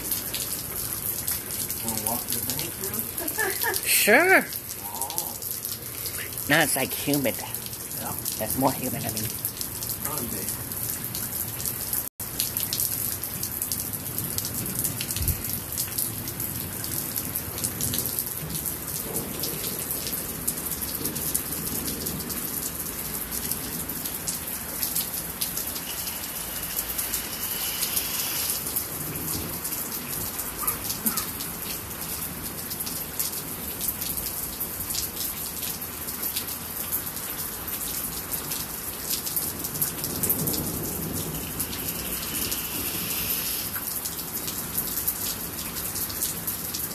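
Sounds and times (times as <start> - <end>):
rain on hard surfaces: 0.0 - 46.9.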